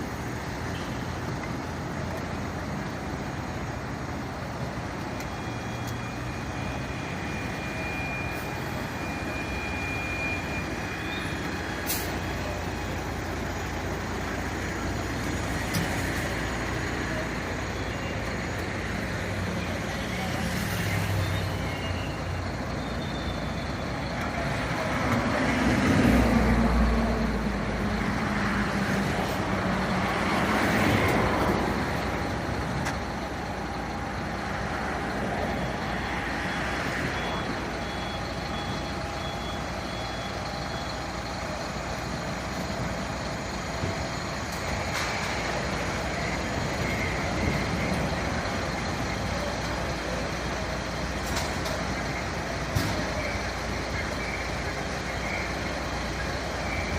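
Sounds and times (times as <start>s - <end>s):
heavy vehicles passing: 0.0s - 56.9s.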